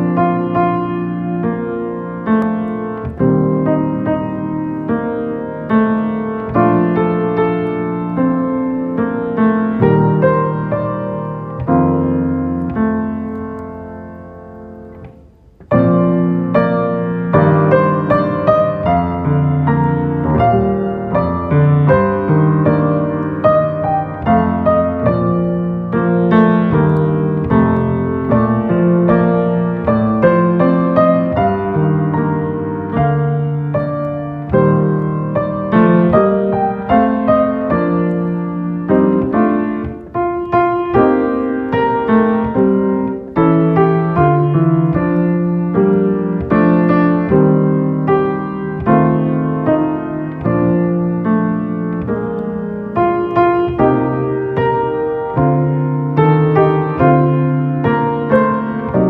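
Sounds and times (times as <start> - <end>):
solo piano music: 0.0 - 59.0.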